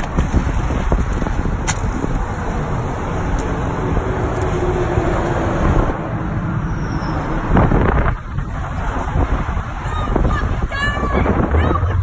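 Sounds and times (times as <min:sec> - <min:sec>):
highway traffic noise: 0:00.0 - 0:12.0.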